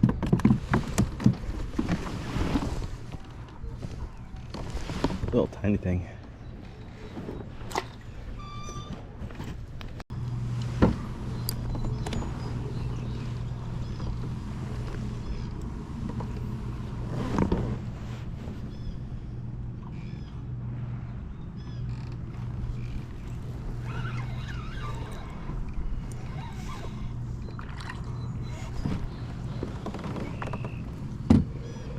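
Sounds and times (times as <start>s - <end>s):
boat motor humming: 0.0s - 31.9s.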